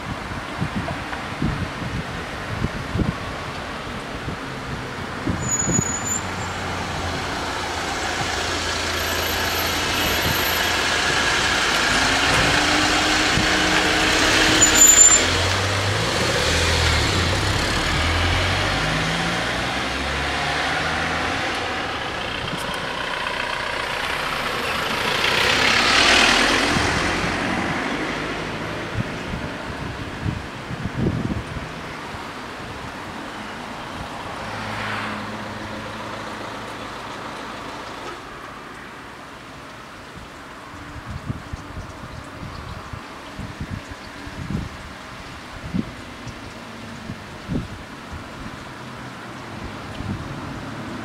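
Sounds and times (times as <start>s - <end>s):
wind noise: 0.0s - 35.7s, 40.1s - 51.0s.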